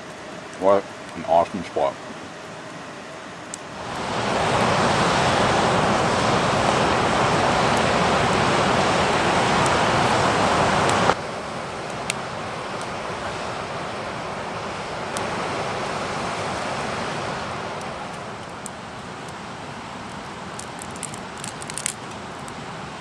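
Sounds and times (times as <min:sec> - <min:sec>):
quieter steady rush: 0:00.0 - 0:23.0
whitewater rushing: 0:03.7 - 0:23.0.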